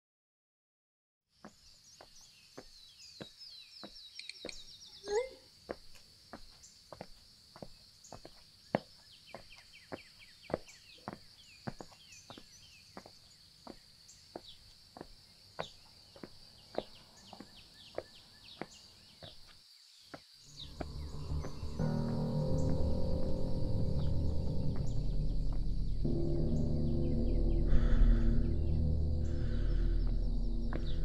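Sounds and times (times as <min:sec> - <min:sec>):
bird chirps: 0:01.4 - 0:06.9, 0:07.6 - 0:31.0
insect drone: 0:04.5 - 0:31.0.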